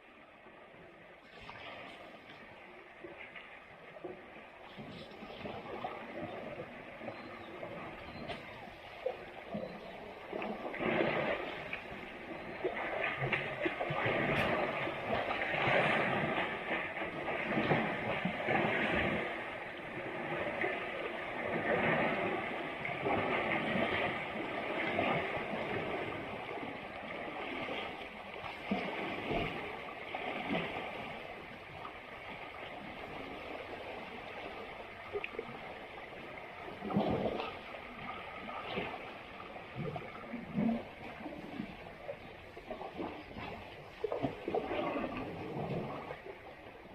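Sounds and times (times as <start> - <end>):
elephants sloshing in muddy water: 4.1 - 46.9.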